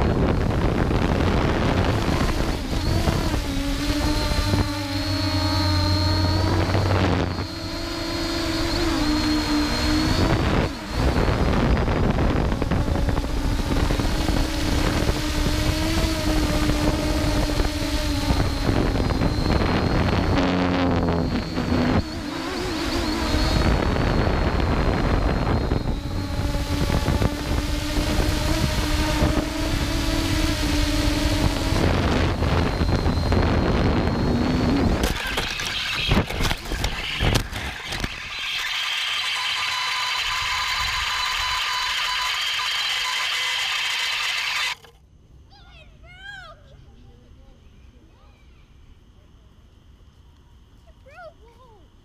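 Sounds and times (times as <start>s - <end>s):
drone propellers whining: 0.0s - 45.0s.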